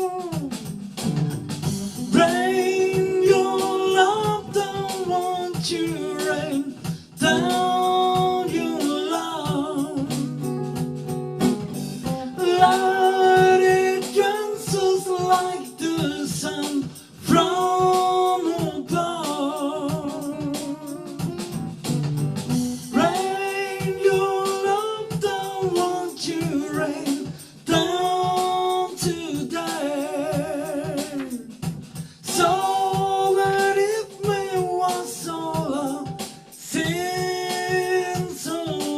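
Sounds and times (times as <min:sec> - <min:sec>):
guitar accompaniment: 0:00.0 - 0:38.9
person singing soul melody: 0:00.0 - 0:38.9.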